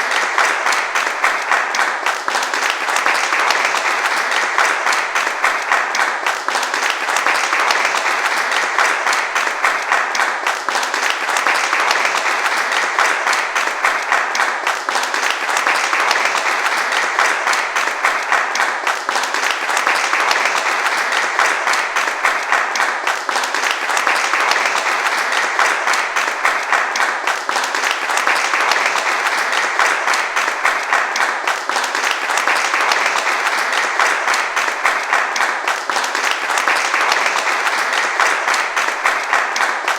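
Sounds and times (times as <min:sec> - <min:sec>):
audience applauding: 0:00.0 - 0:39.9.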